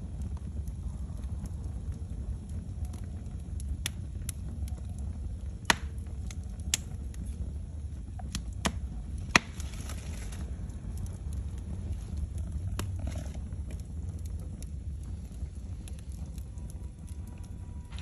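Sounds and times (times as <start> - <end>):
fire popping and crackling: 0.0 - 18.0
low rumble of flame: 0.0 - 18.0.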